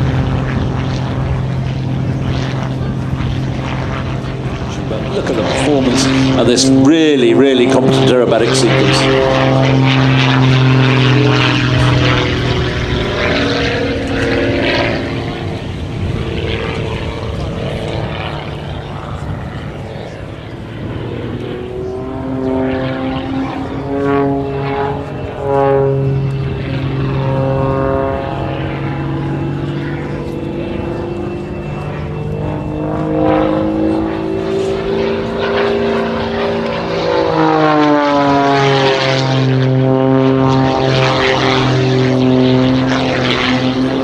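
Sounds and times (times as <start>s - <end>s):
propeller plane engine: 0.0s - 44.0s.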